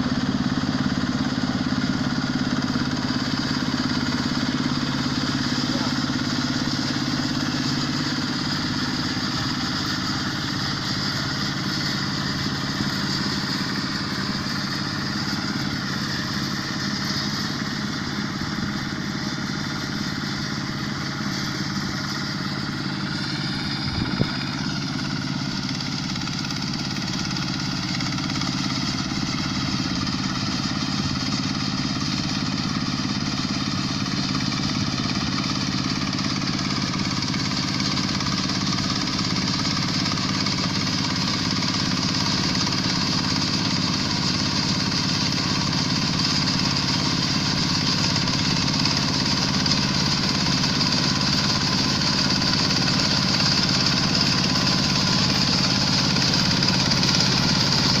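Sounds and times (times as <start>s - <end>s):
diesel engine and machinery running: 0.0s - 58.0s.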